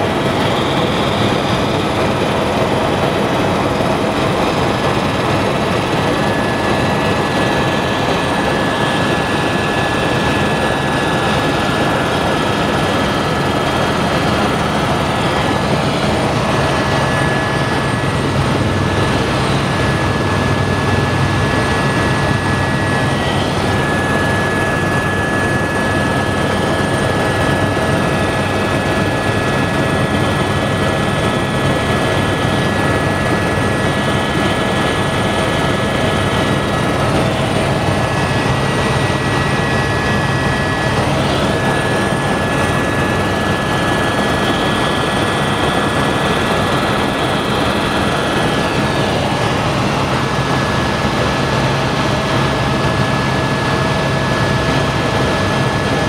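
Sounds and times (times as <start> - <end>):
helicopter engine and rotor noise: 0.0 - 56.0
steady engine whine: 0.0 - 56.0.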